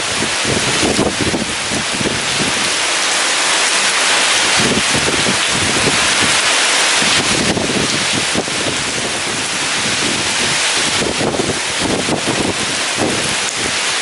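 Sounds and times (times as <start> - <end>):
heavy rain pouring: 0.0 - 14.0
wind buffeting microphone: 0.0 - 14.0.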